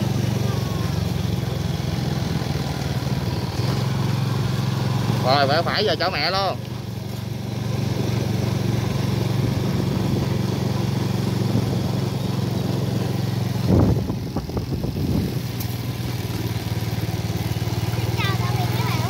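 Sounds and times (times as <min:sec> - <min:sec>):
small engine humming: 0:00.0 - 0:19.0.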